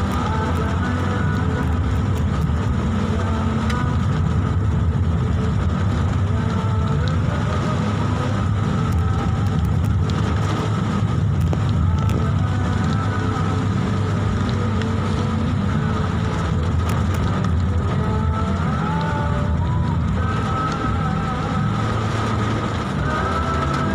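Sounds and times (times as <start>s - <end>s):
car engine rumble: 0.0s - 23.9s
heavy rain ticking on car: 0.0s - 23.9s
wet road noise: 0.0s - 23.9s.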